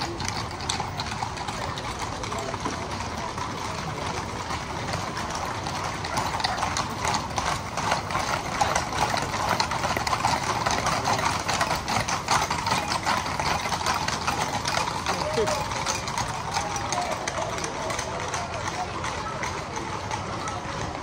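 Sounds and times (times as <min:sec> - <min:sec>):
horse hooves on asphalt: 0:00.0 - 0:21.0.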